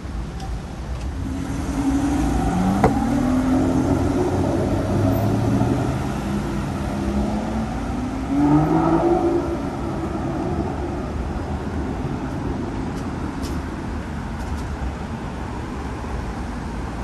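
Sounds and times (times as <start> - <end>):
car engines passing: 0.0 - 17.0.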